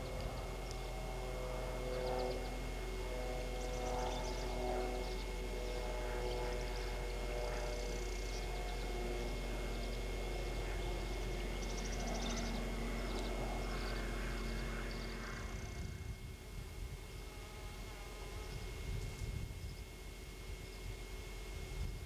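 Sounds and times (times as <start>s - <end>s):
low drone with steady tones: 0.0s - 22.0s.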